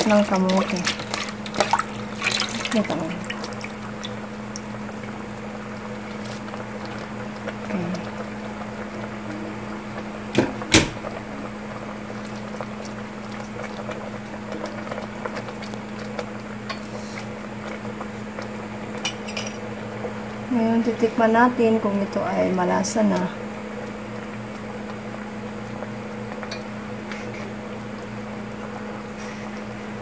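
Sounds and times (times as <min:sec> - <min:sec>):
pot of broth simmering: 0:00.0 - 0:30.0
steady low hum: 0:00.0 - 0:30.0.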